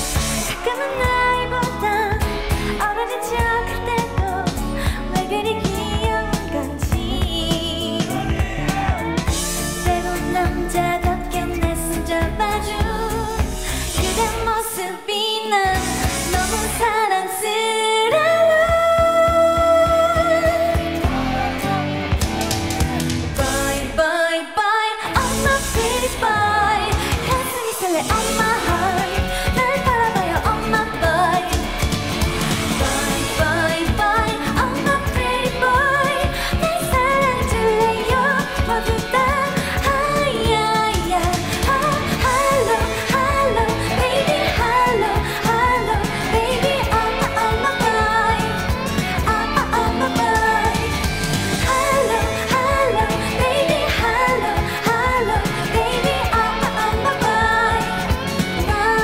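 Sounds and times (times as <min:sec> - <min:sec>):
steady drum beat: 0:00.0 - 0:02.7, 0:03.4 - 0:14.4, 0:19.8 - 0:23.9, 0:28.1 - 0:59.0
bass: 0:00.0 - 0:14.8, 0:15.6 - 0:17.1, 0:18.1 - 0:24.1, 0:25.1 - 0:59.0
person singing: 0:00.0 - 0:59.0.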